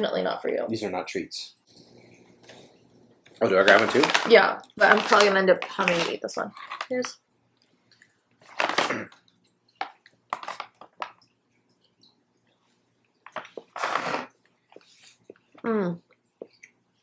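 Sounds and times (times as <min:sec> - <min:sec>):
people chewing: 0:01.6 - 0:17.0.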